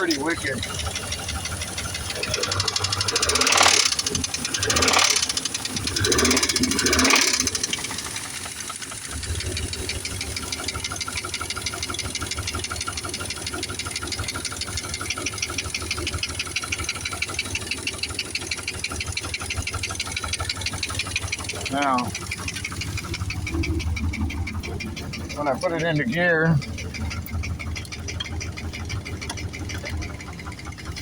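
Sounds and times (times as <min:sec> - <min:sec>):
engine idling with heavy knock: 0:00.0 - 0:31.0.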